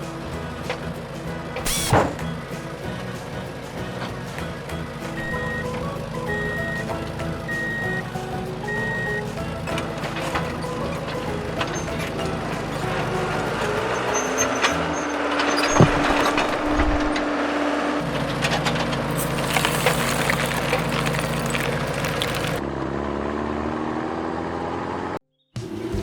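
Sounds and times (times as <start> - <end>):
heavy machinery engines running: 0.0 - 22.6.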